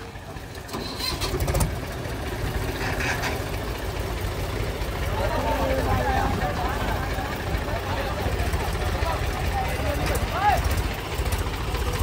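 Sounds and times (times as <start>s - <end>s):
diesel tractor engines running: 0.0s - 12.0s.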